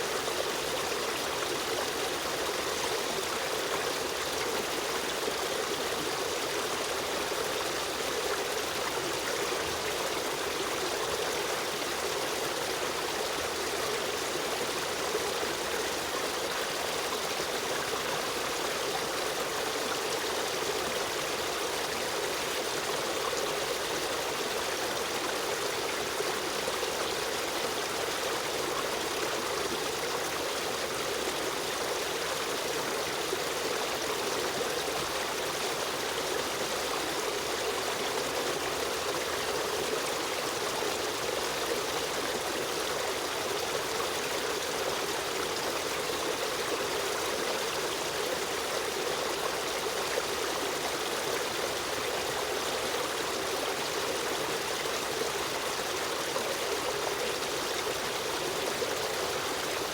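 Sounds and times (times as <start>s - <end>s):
stream water running and trickling: 0.0s - 59.9s.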